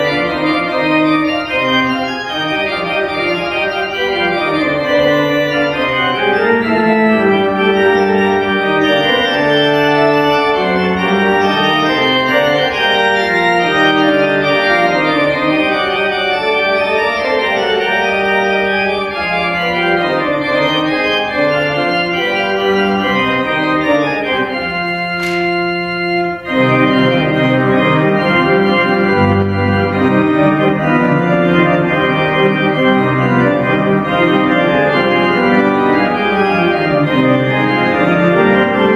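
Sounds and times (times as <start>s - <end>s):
pipe organ playing: 0.0s - 38.9s.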